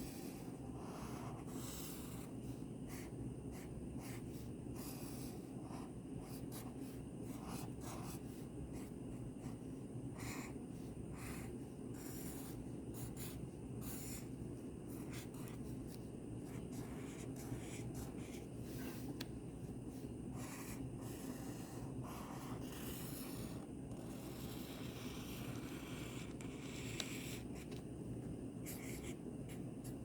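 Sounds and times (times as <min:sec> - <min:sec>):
pen scratching on paper: 0:00.0 - 0:14.3, 0:14.9 - 0:19.2, 0:19.9 - 0:27.8, 0:28.6 - 0:30.0
steady low hum: 0:00.0 - 0:30.0.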